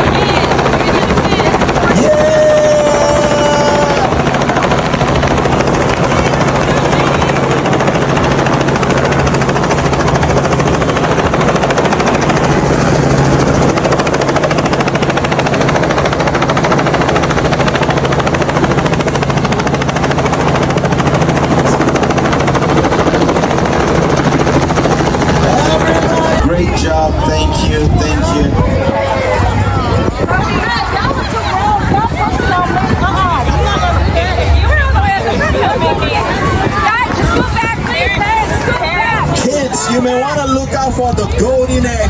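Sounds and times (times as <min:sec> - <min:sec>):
helicopter flying overhead: 0:00.0 - 0:42.0.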